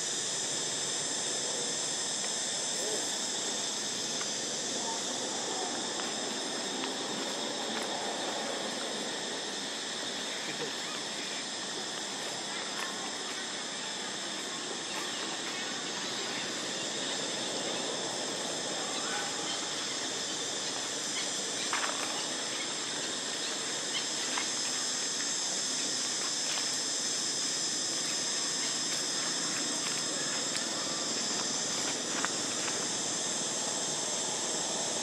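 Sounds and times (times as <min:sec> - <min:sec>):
insect chorus: 0:00.0 - 0:35.0.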